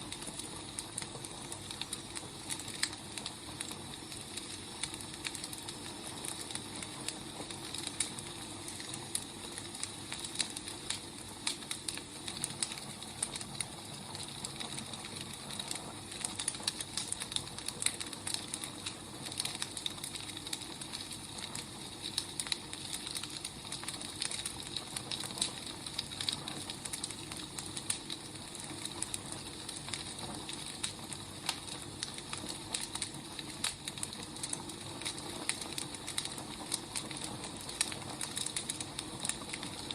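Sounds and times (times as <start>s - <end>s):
burning firewood crackling: 0.0s - 39.9s.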